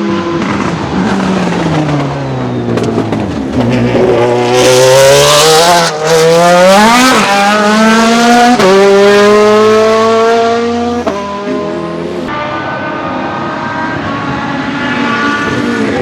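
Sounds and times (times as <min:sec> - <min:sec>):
racing engine accelerating hard: 0:00.0 - 0:16.0.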